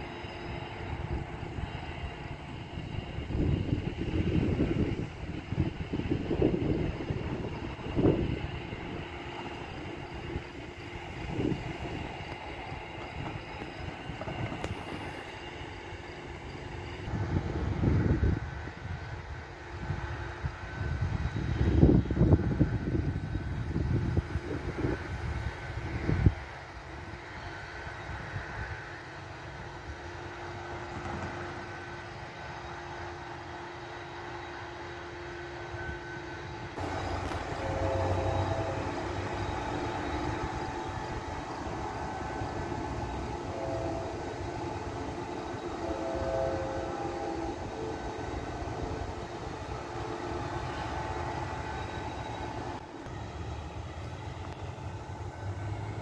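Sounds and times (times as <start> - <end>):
distant freight train rumble: 0.0 - 56.0.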